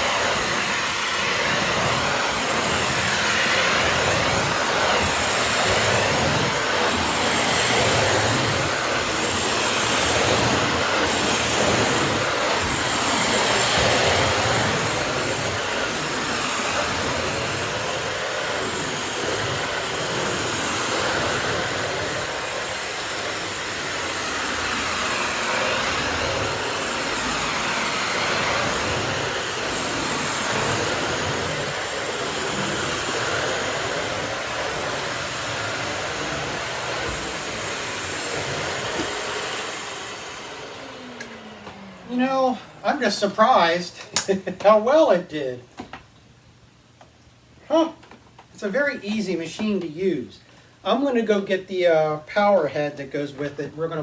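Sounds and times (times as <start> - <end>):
vacuum cleaner running: 0.0 - 46.1.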